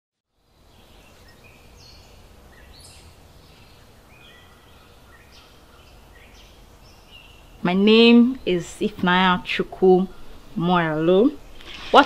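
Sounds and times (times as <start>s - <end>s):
birds chirping and whistling: 0.6s - 12.0s.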